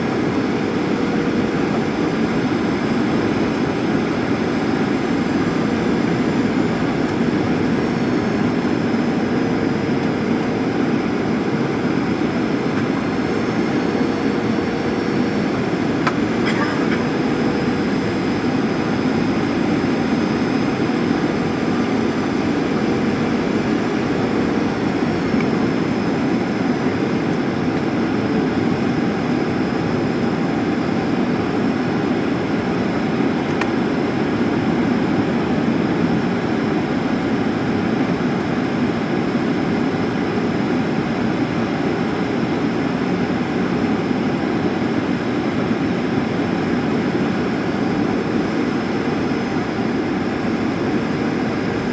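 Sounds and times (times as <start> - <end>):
airplane engine drone: 0.0 - 51.9.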